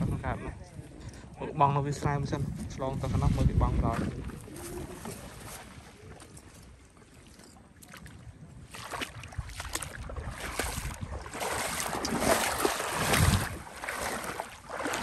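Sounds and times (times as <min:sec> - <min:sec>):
water splashing and sloshing: 0:02.4 - 0:15.0.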